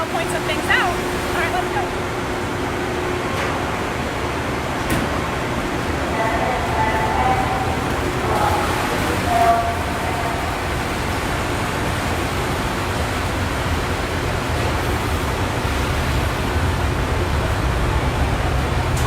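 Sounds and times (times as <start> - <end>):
factory hiss and rumble: 0.0 - 19.0.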